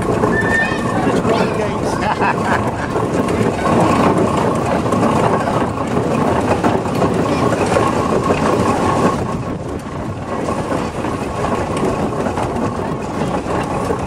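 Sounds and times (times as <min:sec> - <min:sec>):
steam engine mechanical clatter: 0:00.0 - 0:14.0.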